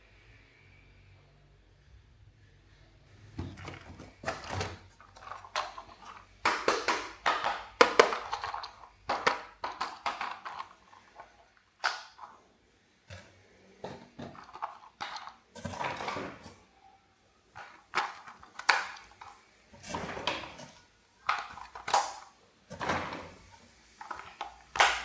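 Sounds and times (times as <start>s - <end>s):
plastic toys clattering: 3.4s - 12.5s, 13.1s - 16.7s, 17.5s - 25.0s.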